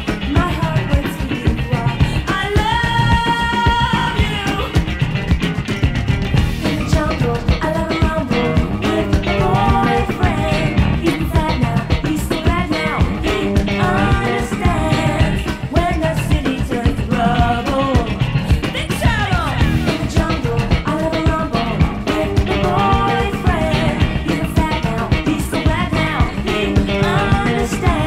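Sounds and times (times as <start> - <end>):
person singing: 0.0 - 5.0, 6.6 - 28.0
upbeat rock and roll song: 0.0 - 28.0.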